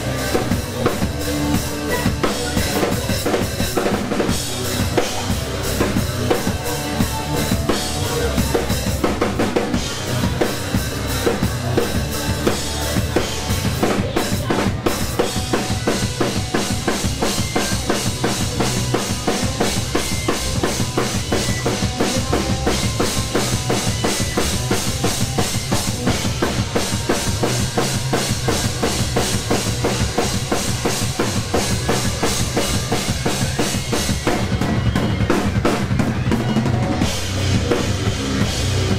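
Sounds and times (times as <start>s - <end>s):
electric guitars: 0.0s - 38.9s
fast drum beat: 0.0s - 38.9s
rock band playing live: 0.0s - 38.9s.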